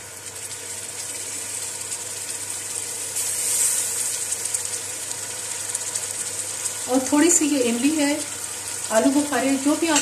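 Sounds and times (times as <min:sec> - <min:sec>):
oil sizzling and crackling in pot: 0:00.0 - 0:10.0.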